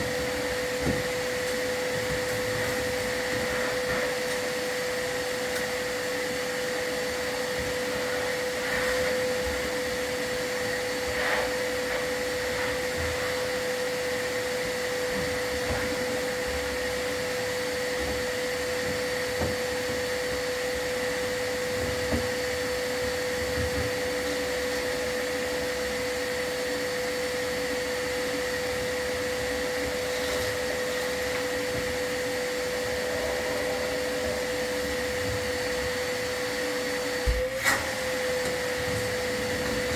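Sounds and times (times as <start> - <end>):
vacuum whining: 0.0 - 39.9.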